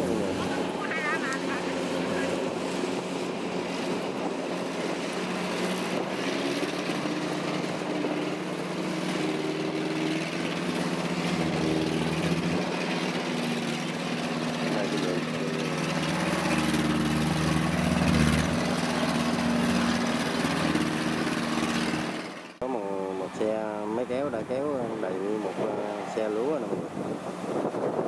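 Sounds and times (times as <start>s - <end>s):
diesel engine running: 0.0s - 28.0s
harvester machinery noise: 0.0s - 28.0s.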